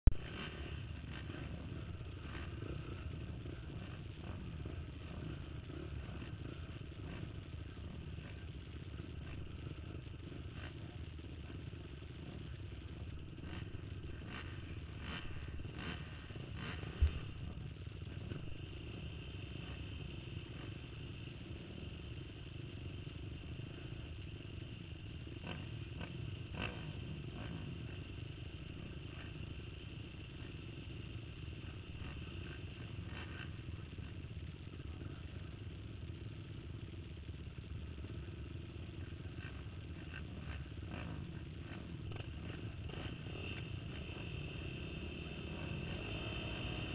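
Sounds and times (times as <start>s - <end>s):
distant racing engines rumble: 0.0s - 46.9s.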